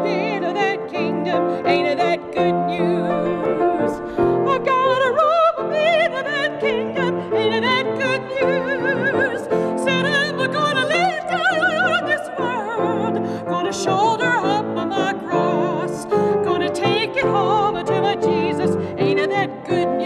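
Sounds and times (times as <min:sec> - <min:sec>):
piano: 0:00.0 - 0:20.0
woman singing operatically: 0:00.0 - 0:20.0.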